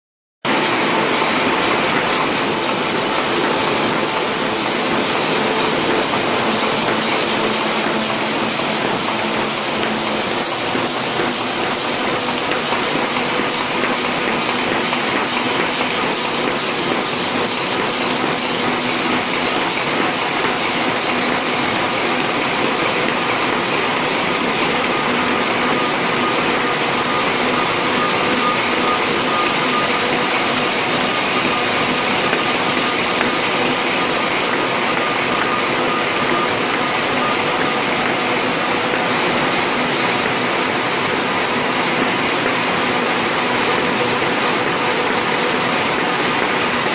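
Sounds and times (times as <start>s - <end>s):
machine whirring and clattering: 0.5s - 46.9s.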